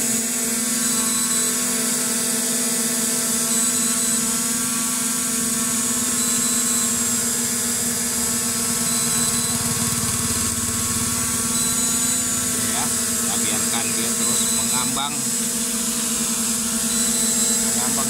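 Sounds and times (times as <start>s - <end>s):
quadcopter propellers whining: 0.0s - 18.0s.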